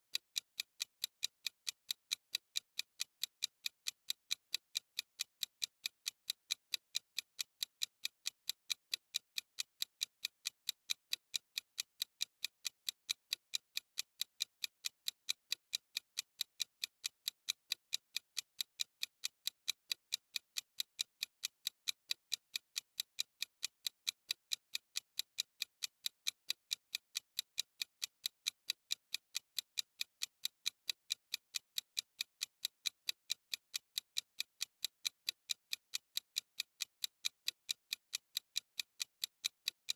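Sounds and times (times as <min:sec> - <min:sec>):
clock ticking: 0:00.1 - 0:39.9.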